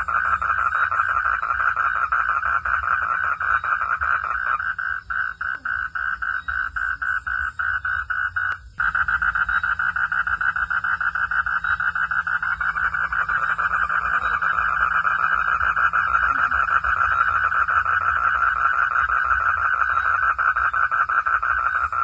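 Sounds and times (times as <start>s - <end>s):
frogs trilling: 0.0s - 22.0s
low steady hum: 0.0s - 22.0s.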